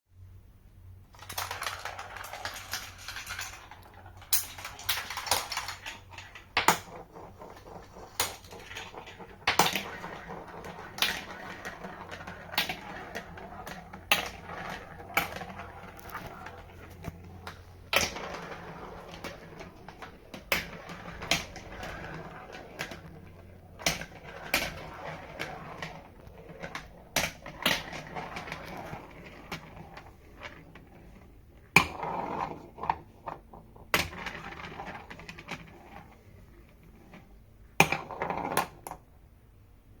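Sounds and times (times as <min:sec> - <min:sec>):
marbles clacking against track: 0:01.1 - 0:36.1
marbles rolling on plastic track: 0:01.1 - 0:39.1.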